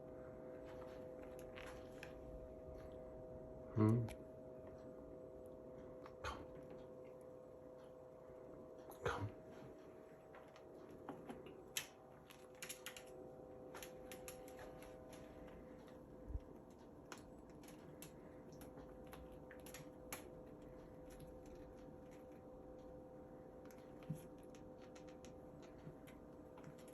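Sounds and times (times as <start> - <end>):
quiet hum: 0.0 - 26.9
light clicks and ticks: 4.0 - 26.9.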